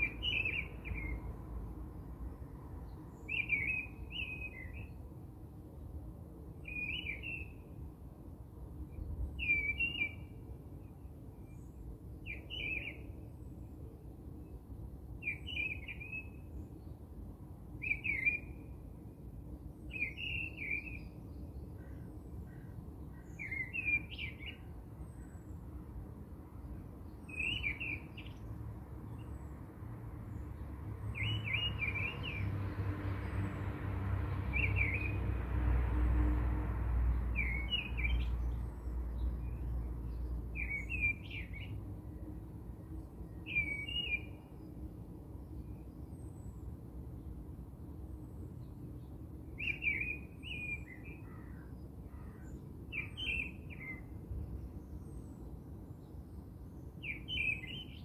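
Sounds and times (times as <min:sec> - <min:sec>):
small songbird chirping: 0:00.0 - 0:05.3, 0:06.6 - 0:07.9, 0:08.8 - 0:33.7, 0:34.4 - 0:35.2, 0:37.1 - 0:58.0
faint low background noise: 0:00.0 - 0:58.0.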